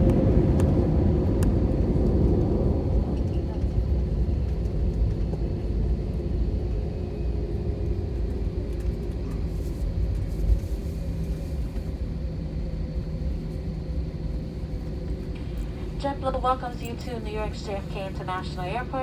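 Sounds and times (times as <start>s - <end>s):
airplane cabin rumble: 0.0s - 19.0s.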